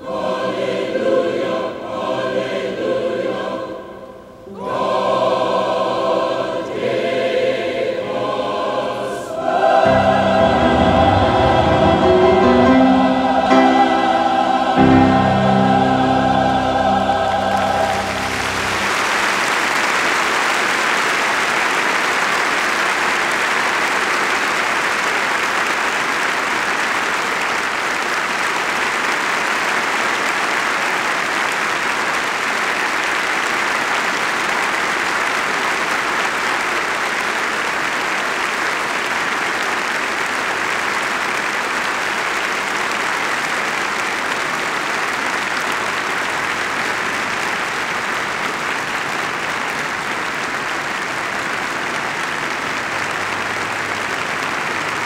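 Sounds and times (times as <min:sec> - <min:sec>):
audience applauding: 0:09.3 - 0:55.0.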